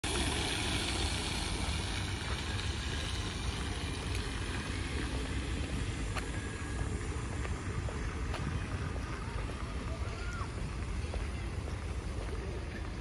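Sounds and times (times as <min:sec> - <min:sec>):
light rain on wet paving: 0:00.0 - 0:13.0
wind rumbling on microphone: 0:00.0 - 0:13.0.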